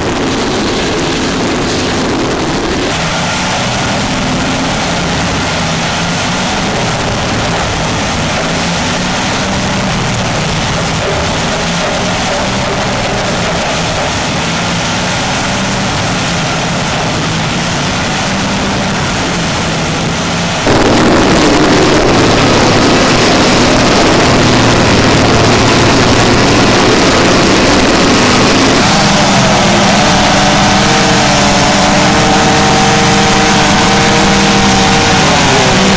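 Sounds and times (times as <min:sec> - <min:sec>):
grinder engine and log grinding: 0:00.0 - 0:35.9.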